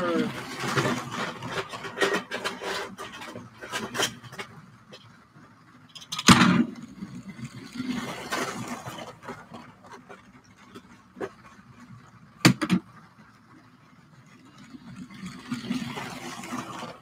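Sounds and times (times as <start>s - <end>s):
toy train rumbling on track: 0.0s - 17.0s.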